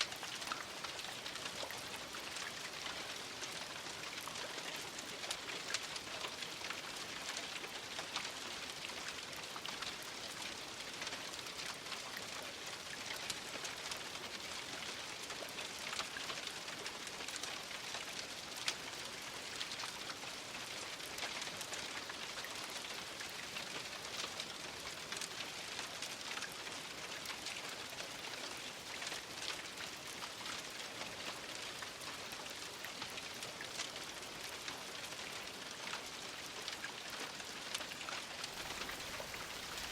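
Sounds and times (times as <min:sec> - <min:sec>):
rain falling: 0:00.0 - 0:39.9
raindrops pattering: 0:00.0 - 0:39.9.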